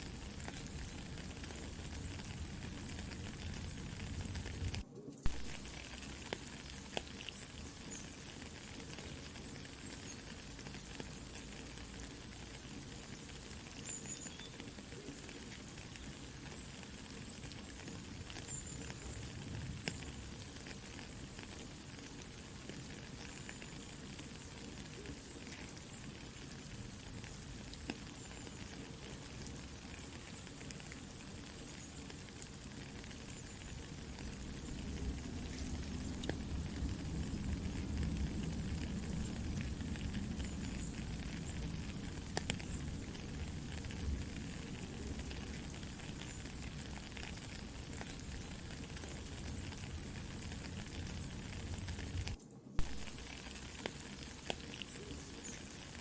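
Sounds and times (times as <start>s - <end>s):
campfire crackling: 0.0s - 56.0s
soft steady rain: 0.0s - 56.0s.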